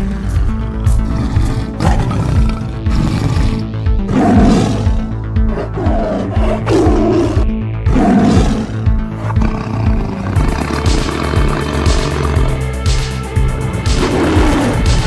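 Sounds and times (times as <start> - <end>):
dramatic background music: 0.0 - 15.0
big cat roaring and growling: 0.8 - 15.0.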